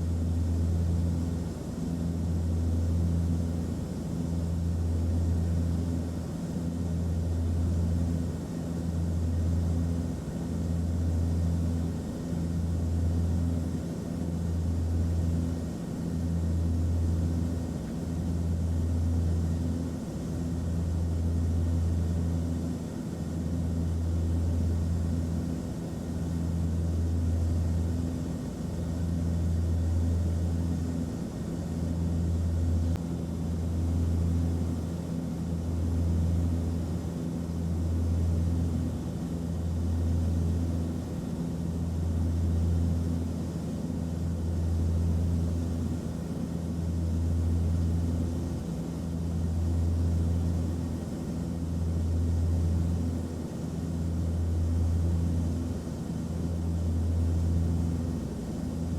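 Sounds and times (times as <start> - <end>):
airplane engine drone: 0.0 - 58.9.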